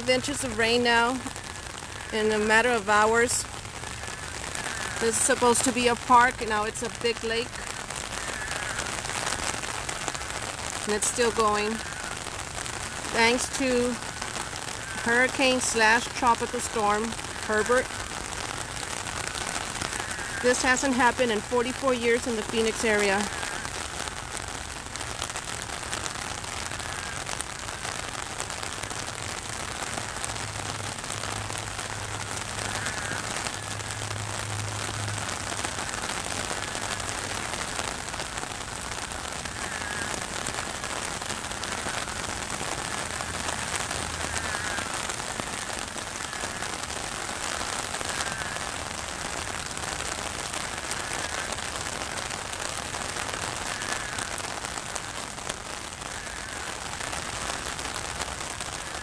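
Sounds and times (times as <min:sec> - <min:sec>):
heavy rain on water: 0:00.0 - 0:59.0.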